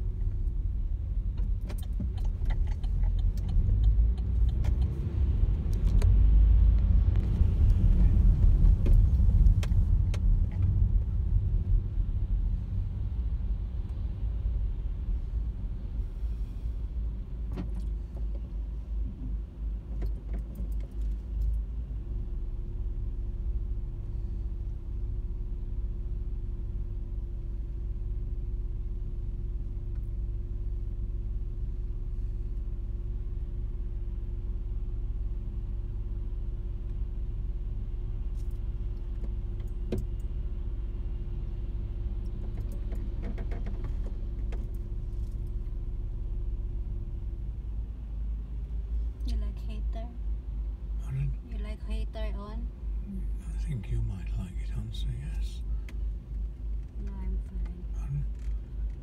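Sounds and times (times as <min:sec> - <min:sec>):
car engine idling: 0:06.6 - 0:59.0.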